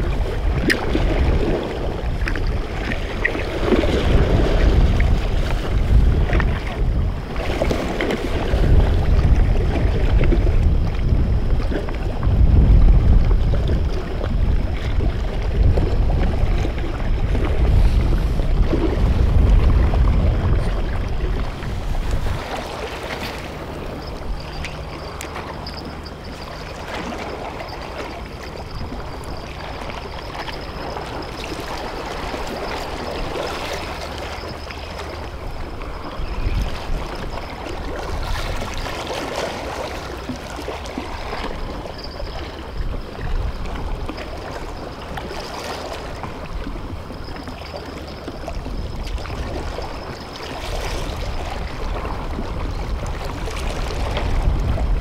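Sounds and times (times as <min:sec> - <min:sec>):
thin steady high whine: 0:00.0 - 0:53.6
seawater lapping against breakwater: 0:00.0 - 0:55.0.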